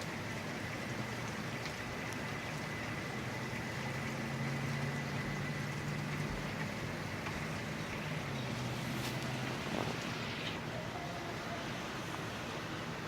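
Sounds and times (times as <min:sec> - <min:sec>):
storm rain: 0:00.0 - 0:13.0
vehicle engine hum: 0:00.0 - 0:13.0.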